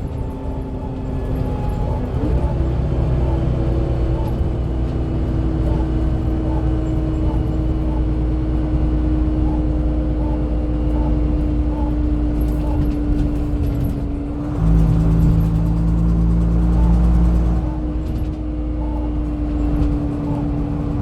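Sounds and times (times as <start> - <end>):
bus diesel engine running: 0.0 - 21.0
deeper engine note: 0.0 - 21.0.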